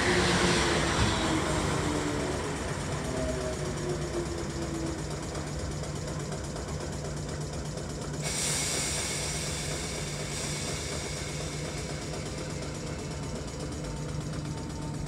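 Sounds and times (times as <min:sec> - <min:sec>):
electric train humming: 0:00.0 - 0:15.0
short train whine: 0:00.0 - 0:15.0.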